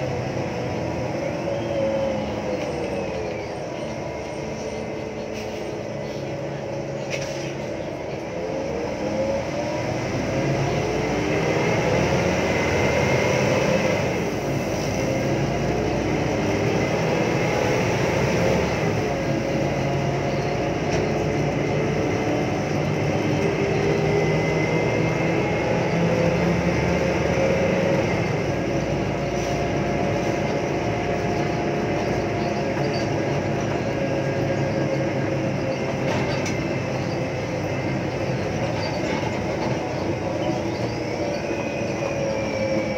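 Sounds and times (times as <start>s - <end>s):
bus transmission whining: 0.0s - 42.9s
diesel engine: 0.0s - 42.9s.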